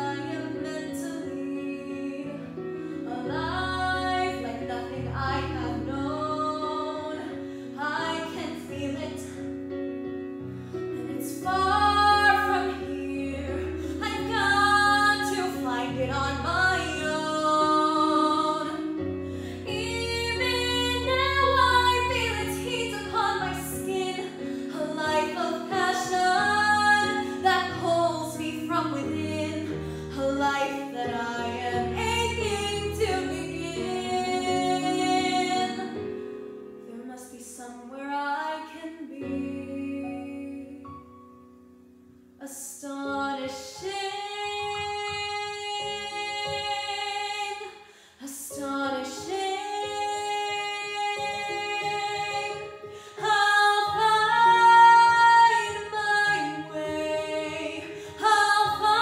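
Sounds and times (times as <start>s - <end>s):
woman singing: 0.0s - 9.7s, 10.9s - 41.1s, 42.4s - 59.0s.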